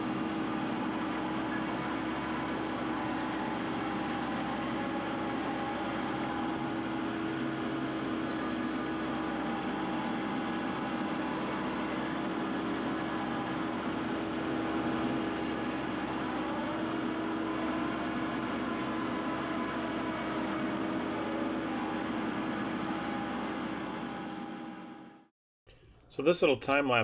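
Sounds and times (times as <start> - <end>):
vehicle engine droning: 0.0 - 24.4.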